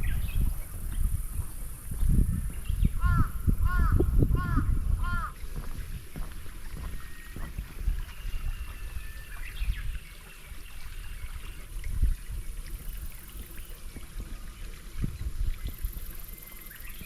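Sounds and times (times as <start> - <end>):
water lapping and trickling: 0.0 - 17.0
wind rumble on microphone: 0.0 - 17.0.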